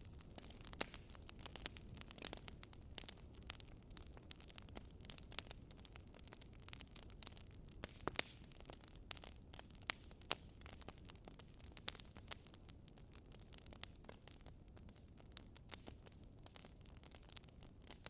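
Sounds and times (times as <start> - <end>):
fire rumbling: 0.0 - 18.0
firewood popping and snapping: 0.0 - 18.0.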